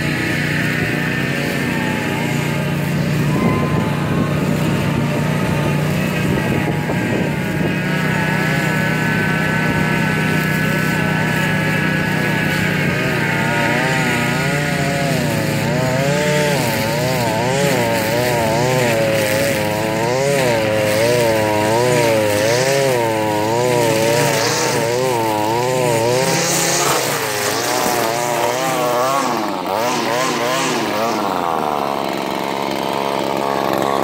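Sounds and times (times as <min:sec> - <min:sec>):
small gasoline engine running: 0:00.0 - 0:34.0.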